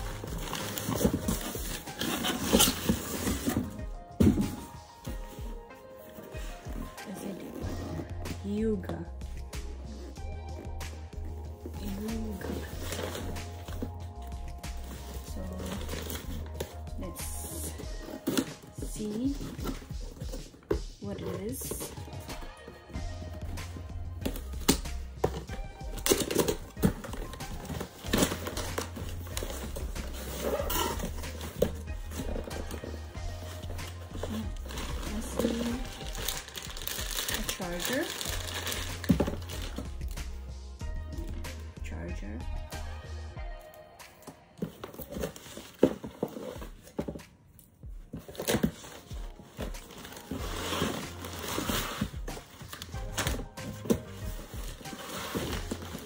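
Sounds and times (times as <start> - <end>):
cardboard rustling and scraping: 0.0 - 8.2, 11.6 - 40.1, 44.6 - 47.2, 48.0 - 56.0
background music: 0.0 - 56.0.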